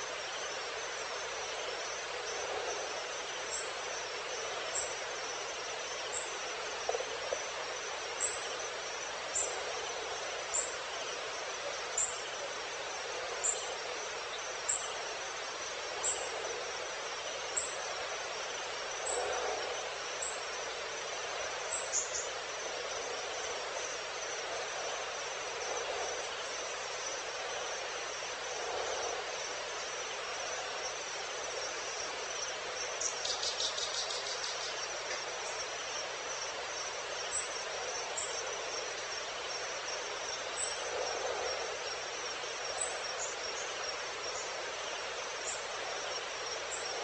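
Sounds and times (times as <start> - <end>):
constant hiss: 0.0 - 47.0
insect chirping: 0.0 - 47.0
insects trilling: 0.0 - 47.0.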